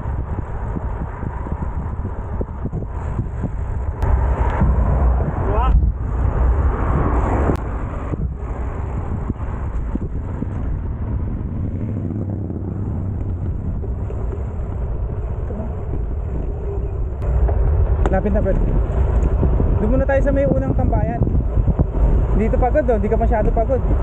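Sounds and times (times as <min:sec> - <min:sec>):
traffic rumble: 0:00.0 - 0:24.0
wind noise: 0:00.0 - 0:24.0.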